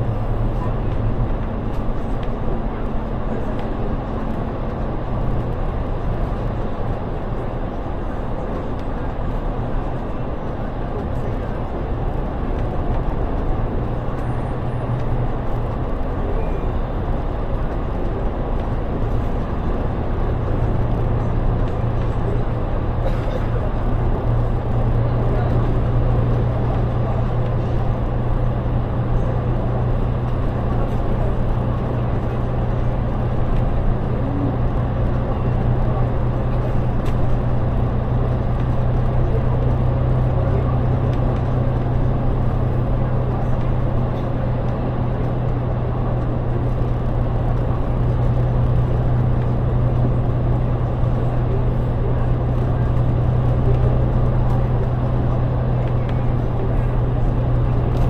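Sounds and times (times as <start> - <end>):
bus interior engine drone: 0.0 - 58.0.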